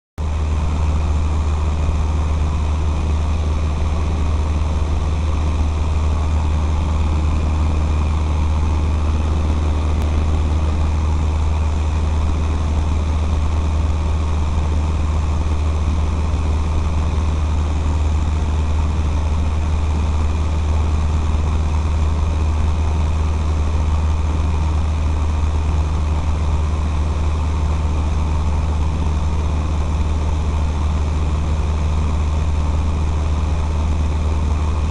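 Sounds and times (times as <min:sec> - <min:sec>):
aircraft engine and propeller droning: 0:00.2 - 0:34.9.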